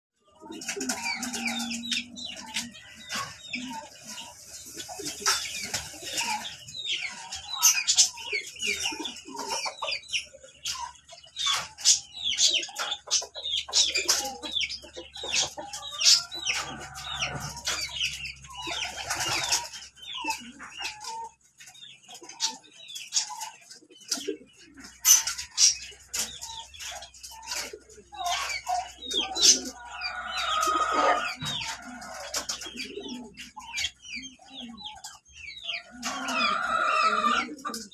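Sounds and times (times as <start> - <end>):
hens clucking: 0.2 - 37.9.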